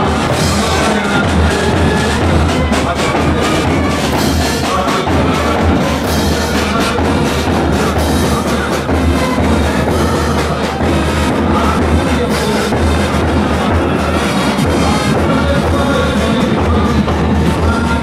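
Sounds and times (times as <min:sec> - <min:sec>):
brass marching band playing: 0:00.0 - 0:18.0
drums beating: 0:00.0 - 0:18.0.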